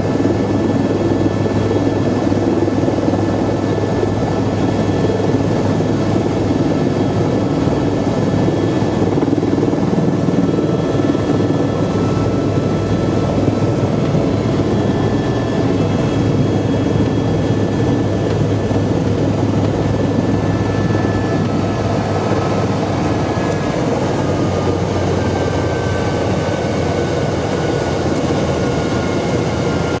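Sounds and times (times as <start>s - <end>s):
faint high turbine whine: 0.0s - 30.0s
helicopter rotor and engine noise: 0.0s - 30.0s.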